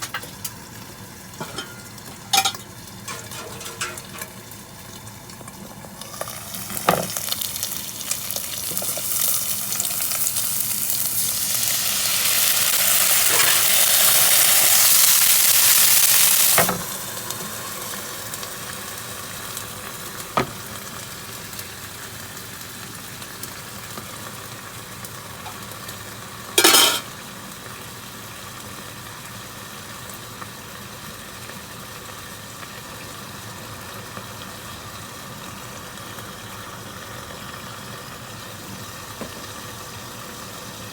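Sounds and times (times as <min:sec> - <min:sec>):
bacon sizzling in a frying pan: 0:00.0 - 0:40.9.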